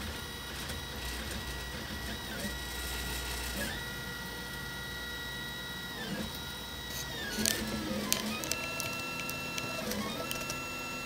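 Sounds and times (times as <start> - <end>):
stepper motors whining: 0.0 - 11.0.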